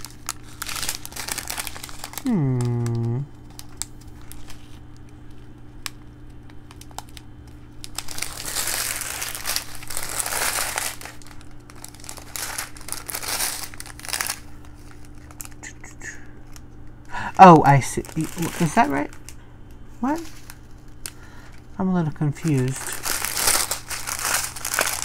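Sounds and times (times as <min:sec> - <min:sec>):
plastic bags crinkling: 0:00.0 - 0:25.0.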